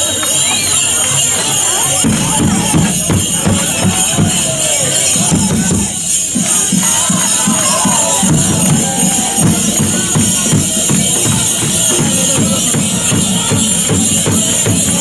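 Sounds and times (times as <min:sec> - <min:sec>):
jingling tambourine rhythm: 0:00.0 - 0:15.0.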